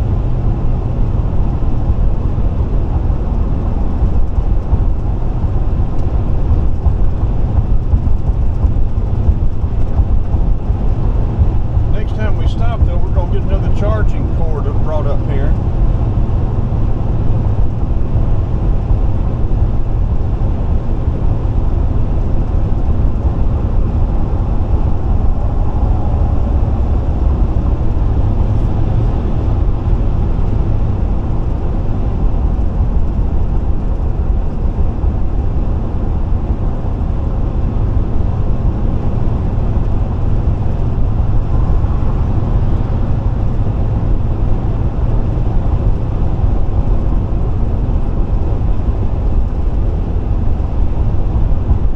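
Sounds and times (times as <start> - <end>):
vehicle road and engine drone: 0.0 - 51.9.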